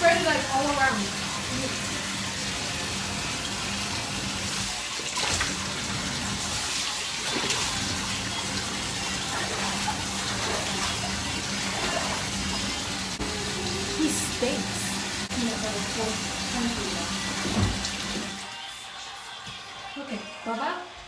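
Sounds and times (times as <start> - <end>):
water running into a bathtub: 0.0 - 18.9.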